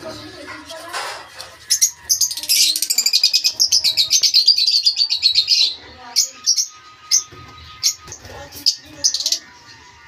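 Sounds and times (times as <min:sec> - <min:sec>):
birds shrill chirping: 0:00.0 - 0:10.0.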